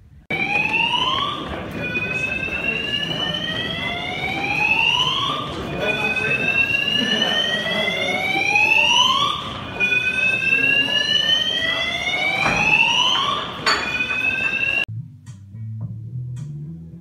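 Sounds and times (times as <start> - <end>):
siren wailing: 0.3 - 14.9.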